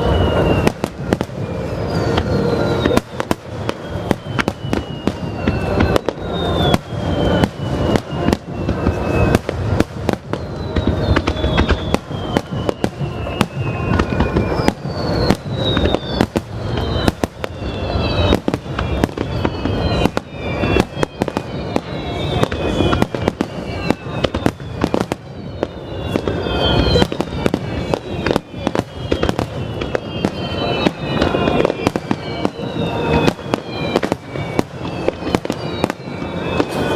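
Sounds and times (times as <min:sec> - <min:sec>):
high falling whistles: 0:00.0 - 0:36.9.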